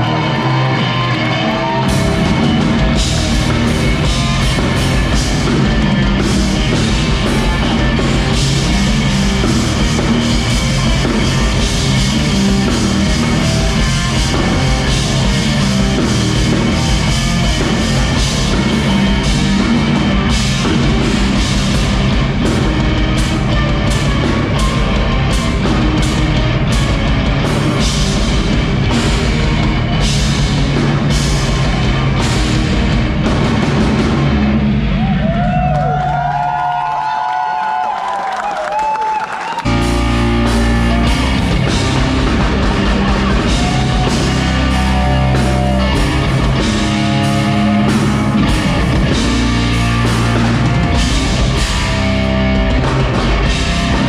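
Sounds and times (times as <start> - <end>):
drum kit beat: 0.0 - 35.8, 39.6 - 54.0
rock band playing loudly: 0.0 - 54.0.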